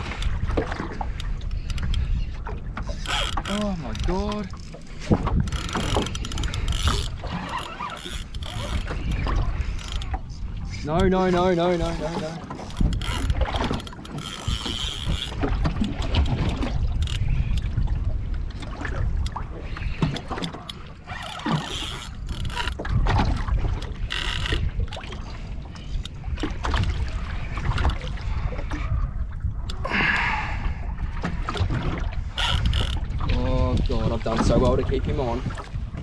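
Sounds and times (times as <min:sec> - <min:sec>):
water slapping boat hull: 0:00.0 - 0:36.0
wind buffeting microphone: 0:00.0 - 0:36.0.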